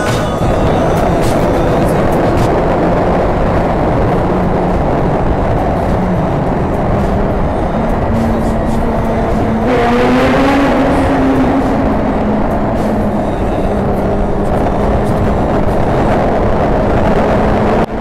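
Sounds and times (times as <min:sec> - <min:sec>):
motorcycle engine revving in tunnel: 0:00.8 - 0:18.0.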